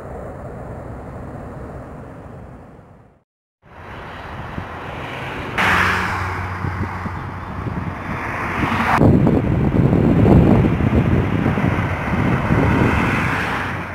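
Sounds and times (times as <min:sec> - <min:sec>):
highway traffic: 0:00.0 - 0:13.9
wind buffeting microphone: 0:00.0 - 0:13.9.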